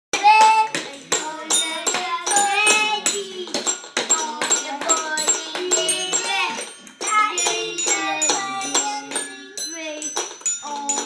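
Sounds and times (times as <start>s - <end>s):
children singing: 0.2s - 11.0s
toy xylophone plinks: 1.1s - 11.0s.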